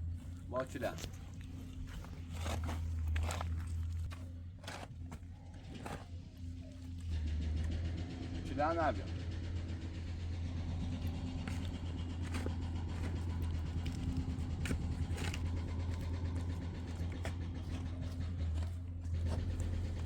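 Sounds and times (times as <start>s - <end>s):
engine humming at low speed: 0.0s - 20.0s.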